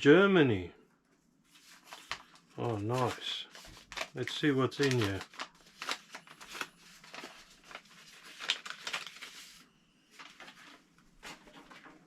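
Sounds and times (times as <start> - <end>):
paper crinkling and tearing: 1.5 - 12.0.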